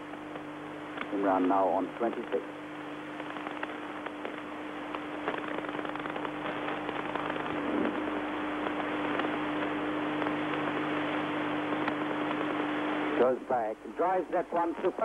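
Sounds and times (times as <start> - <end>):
small crackles: 0.0 - 1.2, 1.9 - 13.2
steady low hum: 0.0 - 15.0.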